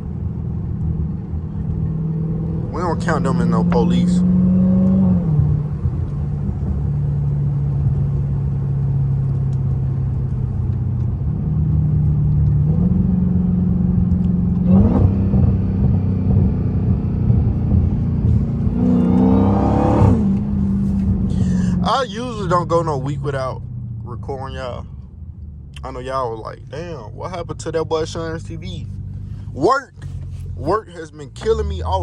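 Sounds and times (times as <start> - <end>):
car engine running at low revs: 0.0 - 32.0.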